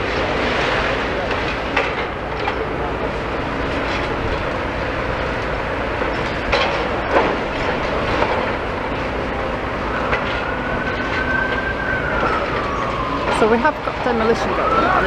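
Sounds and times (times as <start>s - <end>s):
siren: 2.1s - 15.0s.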